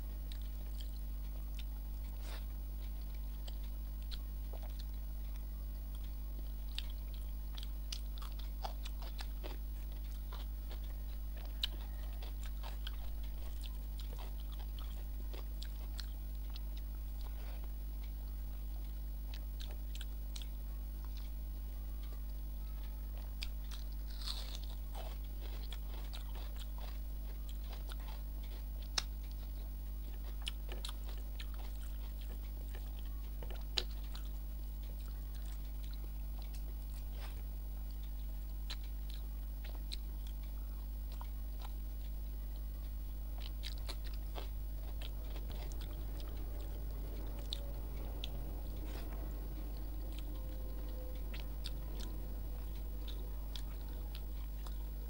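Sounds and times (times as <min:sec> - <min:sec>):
person chewing food: 0:00.0 - 0:21.4, 0:22.8 - 0:55.0
low steady hum: 0:00.0 - 0:55.0.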